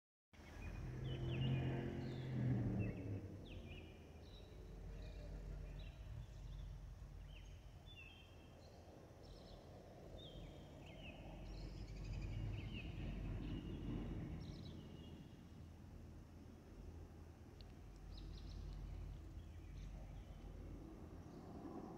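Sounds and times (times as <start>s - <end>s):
jet engines low rumble: 0.4s - 21.9s.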